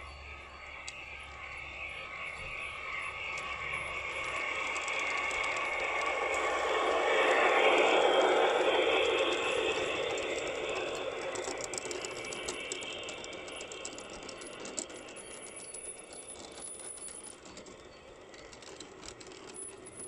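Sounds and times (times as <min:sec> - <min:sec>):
light rolling noise: 0:00.0 - 0:20.0
model train wheels clicking on track: 0:00.0 - 0:20.0.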